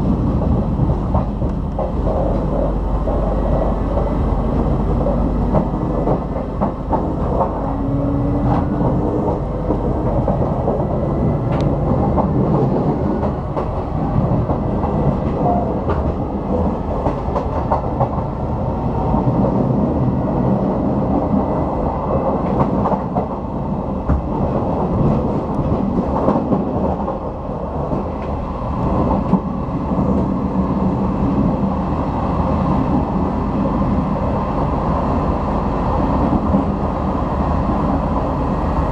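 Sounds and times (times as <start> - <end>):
train rumble: 0.0 - 38.9.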